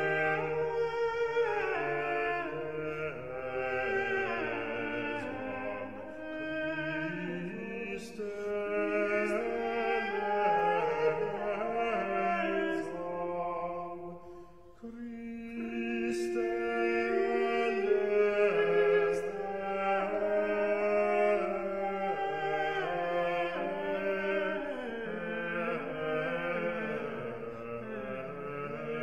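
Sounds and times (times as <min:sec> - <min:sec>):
slow chant-like singing: 0:00.0 - 0:29.0.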